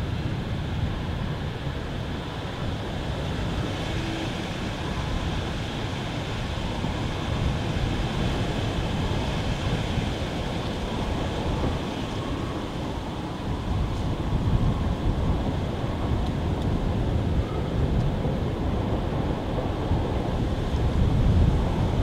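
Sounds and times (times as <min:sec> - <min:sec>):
distant steam train rumble and hiss: 0:00.0 - 0:22.0.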